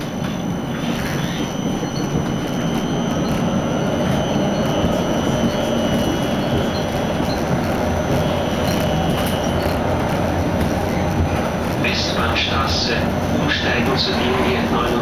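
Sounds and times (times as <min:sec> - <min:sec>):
faint high steady tones: 0:00.0 - 0:15.0
tram running noise: 0:00.0 - 0:15.0.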